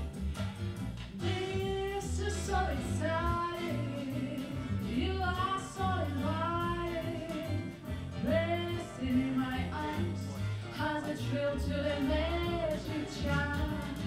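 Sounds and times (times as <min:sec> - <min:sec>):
backing track with bass and beat: 0:00.0 - 0:14.0
woman singing: 0:01.2 - 0:14.0.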